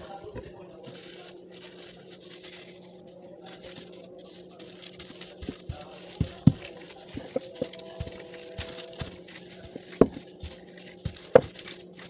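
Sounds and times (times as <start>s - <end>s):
hands rustling dough: 0.0s - 12.0s.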